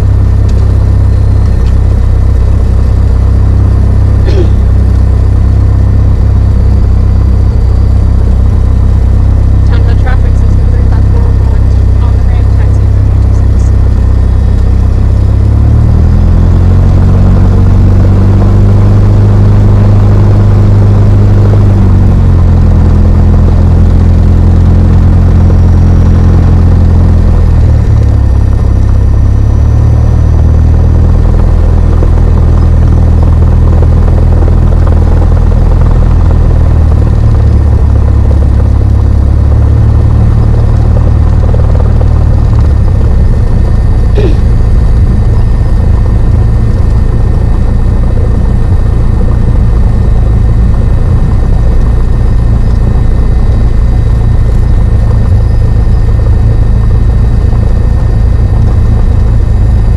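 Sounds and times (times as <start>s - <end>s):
propeller plane engine running: 0.0s - 59.9s.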